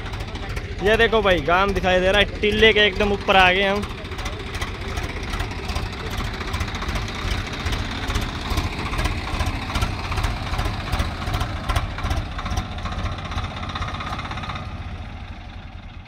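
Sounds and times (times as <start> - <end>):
tractor diesel engines idling: 0.0 - 16.0.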